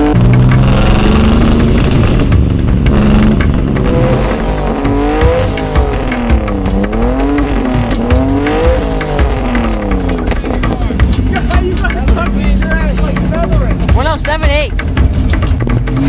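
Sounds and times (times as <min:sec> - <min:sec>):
car engine revving loud exhaust: 0:00.0 - 0:14.0.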